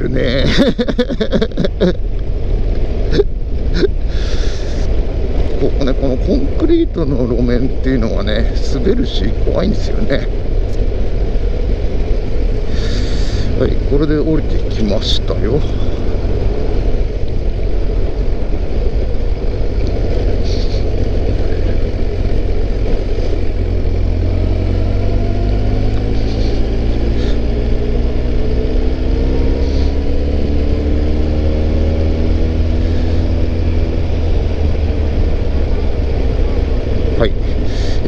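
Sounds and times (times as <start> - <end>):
wind rumble on microphone: 0.0 - 38.0
motorcycle engine running: 4.2 - 38.0.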